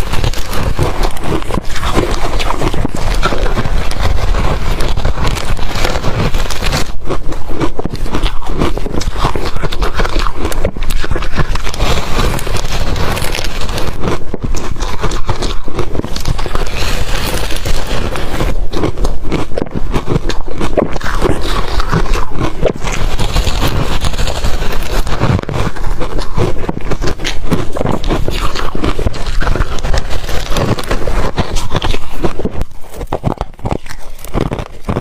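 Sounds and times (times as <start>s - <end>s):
ice crunching being chewed: 0.0s - 35.0s.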